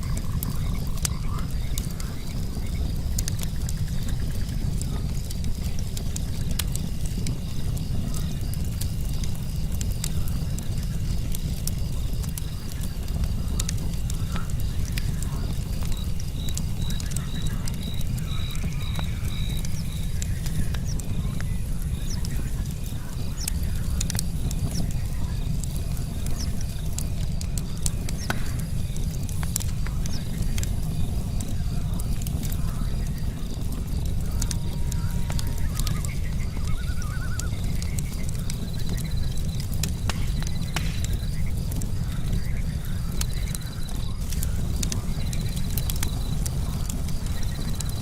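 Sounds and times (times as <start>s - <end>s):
crickets chirring: 0.0s - 48.0s
insects trilling: 0.0s - 48.0s
wood fire crackling and popping: 0.0s - 48.0s.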